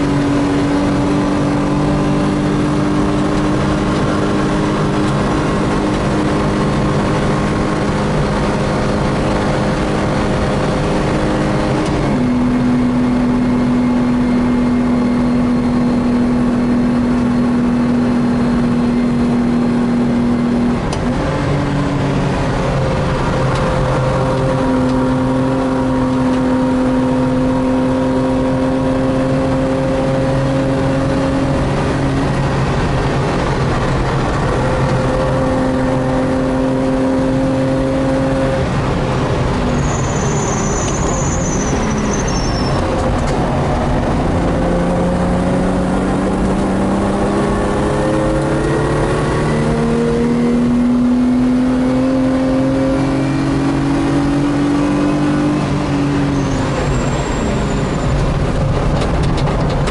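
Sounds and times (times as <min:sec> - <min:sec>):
car engine under load: 0:00.0 - 0:59.9.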